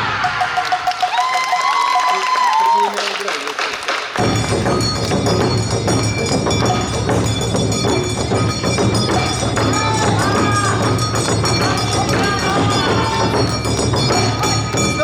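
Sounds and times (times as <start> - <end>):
taiko drums: 0.0 - 2.4, 4.1 - 15.0.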